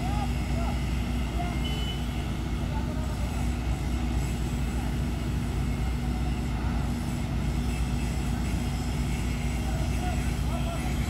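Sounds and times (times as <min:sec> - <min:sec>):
crane diesel engines droning: 0:00.0 - 0:11.0.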